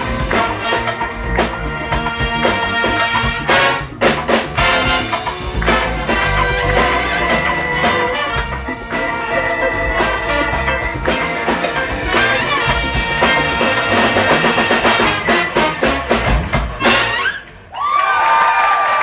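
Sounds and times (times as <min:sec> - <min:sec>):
heavy drum hits: 0:00.0 - 0:17.1
big band playing funky tune: 0:00.0 - 0:17.7.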